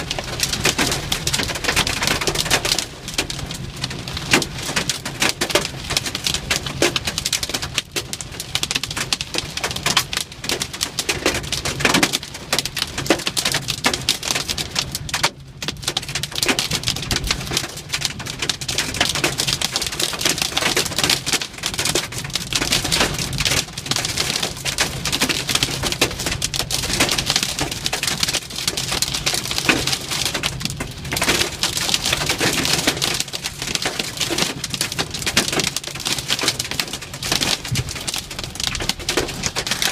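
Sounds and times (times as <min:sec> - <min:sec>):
hailstones clattering: 0:00.0 - 0:39.9
rain pelting: 0:00.0 - 0:39.9.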